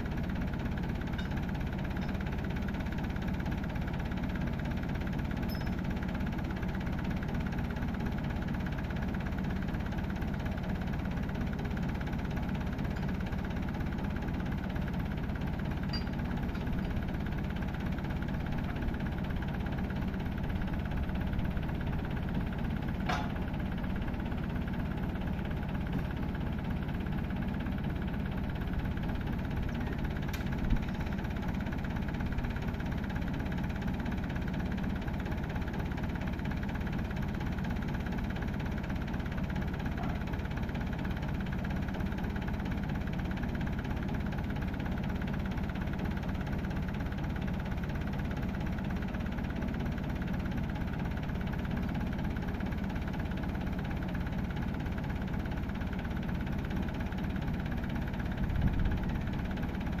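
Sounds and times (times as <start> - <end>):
tractor engine idling: 0.0 - 60.0.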